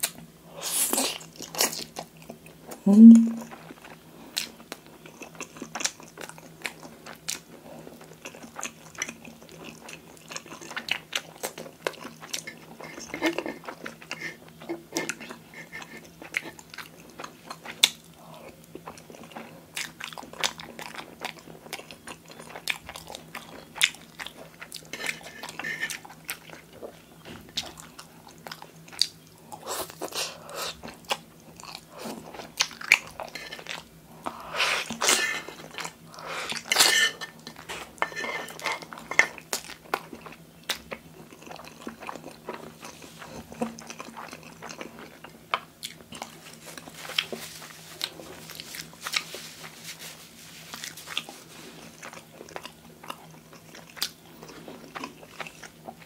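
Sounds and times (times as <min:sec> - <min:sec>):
wet chewing with mouth clicks: 0:00.9 - 0:56.0.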